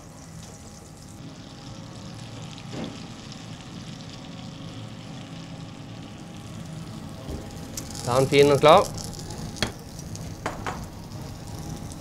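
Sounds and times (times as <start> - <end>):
fish sticks sizzling in a pan: 0.1 - 12.0.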